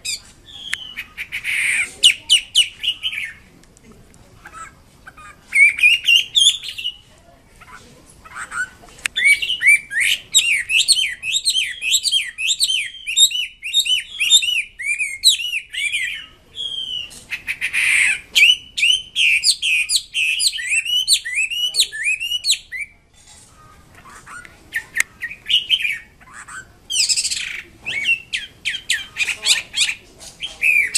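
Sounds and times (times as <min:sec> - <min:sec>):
bird singing whistled notes: 0:00.0 - 0:03.4, 0:05.5 - 0:07.1, 0:09.2 - 0:23.0, 0:24.7 - 0:30.9.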